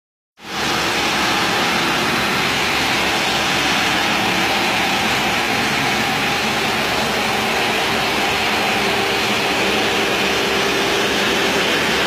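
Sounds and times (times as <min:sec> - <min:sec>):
pressurised water spray: 0:00.4 - 0:12.0
vacuum recovery: 0:00.4 - 0:12.0.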